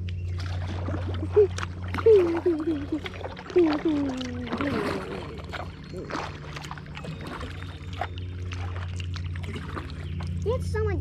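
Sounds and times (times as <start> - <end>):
paddle strokes splashing water: 0.0 - 10.6
water dripping off paddle: 0.0 - 10.6
steady low hum: 0.0 - 11.0.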